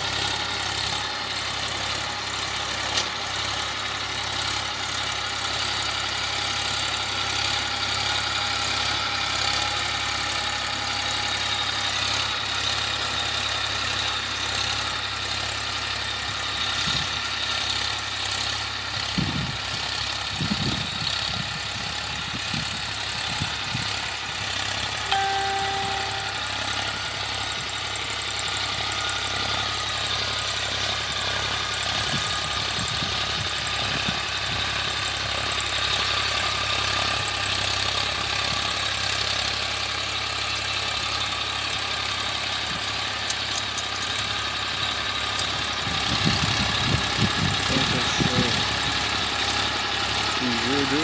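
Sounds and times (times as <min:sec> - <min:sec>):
tractor diesel engine under load: 0:00.0 - 0:51.0.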